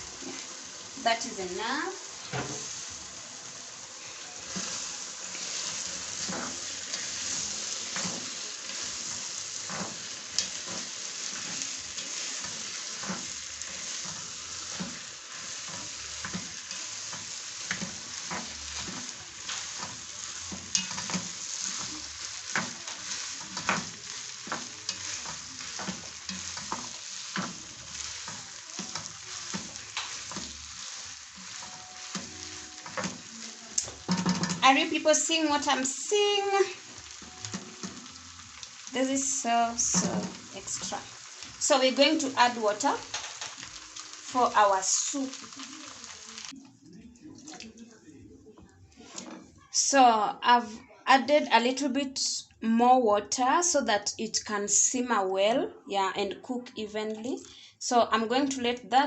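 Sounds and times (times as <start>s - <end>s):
beans sizzling in a pot: 0.0s - 47.9s, 56.7s - 58.5s.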